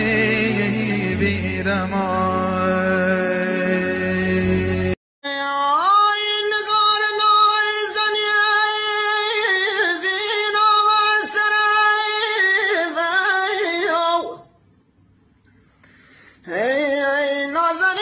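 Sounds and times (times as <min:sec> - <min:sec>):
man singing unaccompanied: 0:00.0 - 0:14.5, 0:16.4 - 0:18.0.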